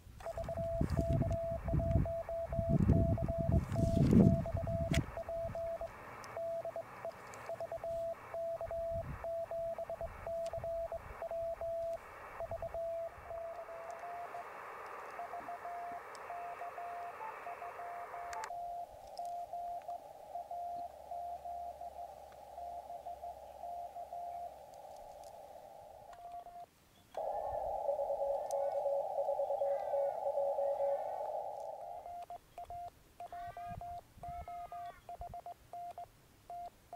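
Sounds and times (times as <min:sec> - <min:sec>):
radio static hiss: 0:00.0 - 0:35.1
morse code beeps: 0:00.2 - 0:25.0, 0:26.1 - 0:36.7.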